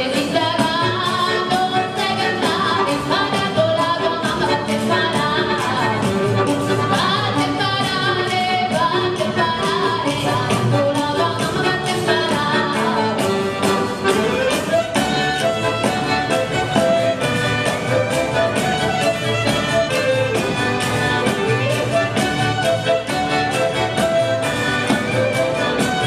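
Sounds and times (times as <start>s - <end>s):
folk dance tune small ensemble: 0.0s - 26.0s.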